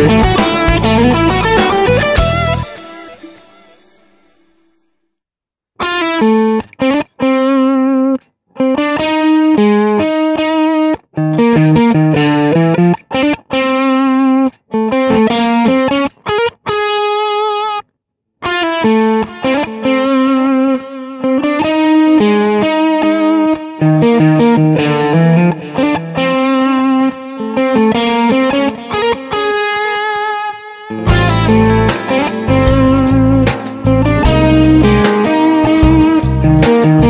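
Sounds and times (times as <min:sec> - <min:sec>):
overdriven electric guitar lead: 0:00.0 - 0:05.0, 0:05.8 - 0:17.8, 0:18.4 - 0:37.0.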